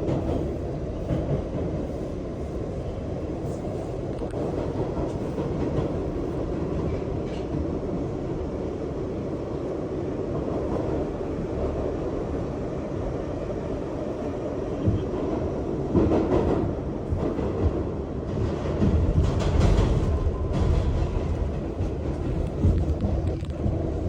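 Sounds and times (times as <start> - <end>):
subway train rumbling: 0.0 - 24.0.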